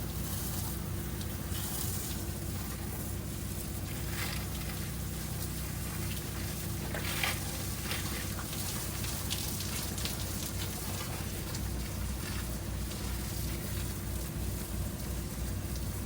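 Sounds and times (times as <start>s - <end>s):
pump motor hum: 0.0s - 16.0s
water spray spattering on surface: 0.0s - 16.0s.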